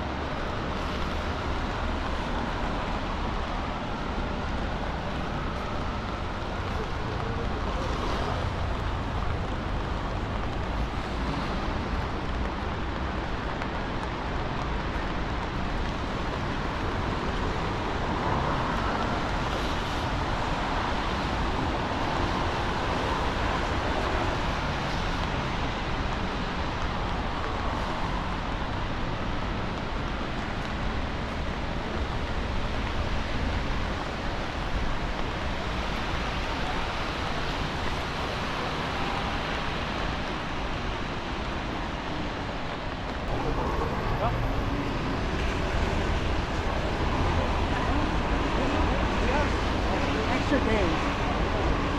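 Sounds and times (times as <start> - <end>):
rain hiss on wet street: 0.0 - 51.9
tyres on wet pavement: 0.0 - 51.9.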